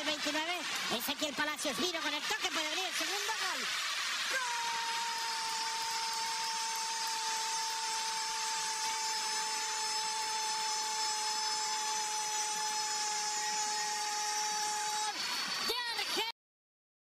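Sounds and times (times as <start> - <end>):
stadium crowd noise: 0.0 - 16.3.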